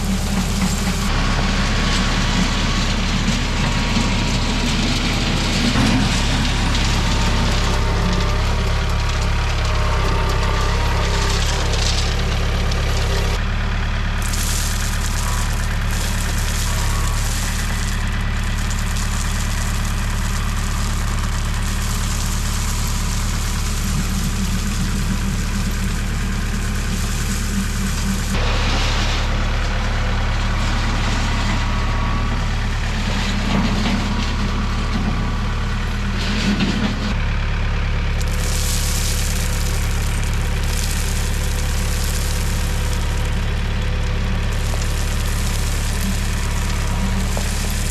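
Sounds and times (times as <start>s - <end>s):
small motor running steadily: 0.0s - 28.4s, 37.2s - 47.9s.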